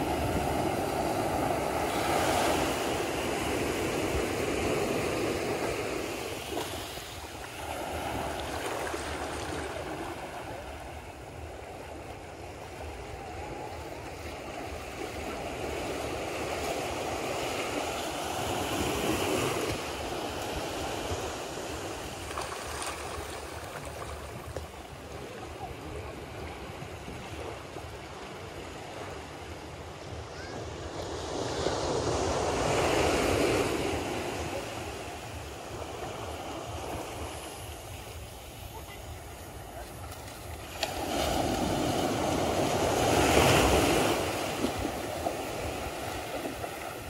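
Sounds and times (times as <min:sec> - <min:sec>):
surf washing onto shore: 0:00.0 - 0:29.5, 0:30.3 - 0:47.0.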